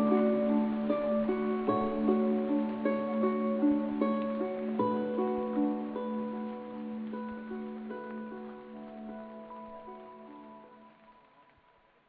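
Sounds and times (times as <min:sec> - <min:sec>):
plucked string instrument melody: 0:00.0 - 0:10.8.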